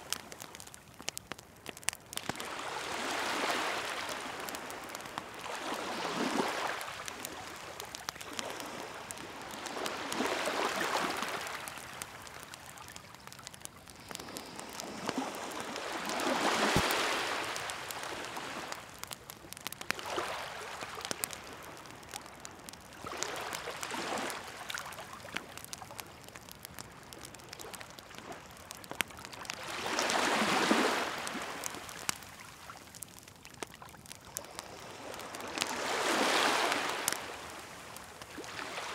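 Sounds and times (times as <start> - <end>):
waves washing onto shore: 0.0 - 38.9
wood fire crackling: 0.0 - 38.9.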